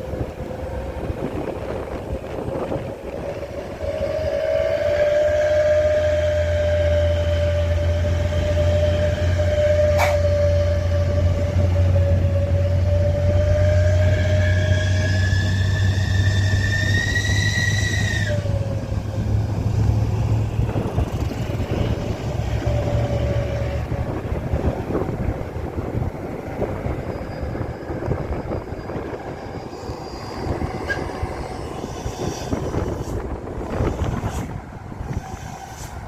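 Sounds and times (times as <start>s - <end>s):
heavy vehicle engine rumble: 0.0s - 4.8s, 5.4s - 36.0s.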